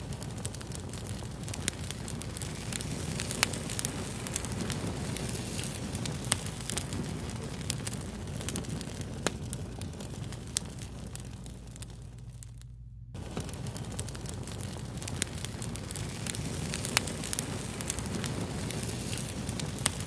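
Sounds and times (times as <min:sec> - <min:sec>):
fire crackling with pops: 0:00.0 - 0:20.0.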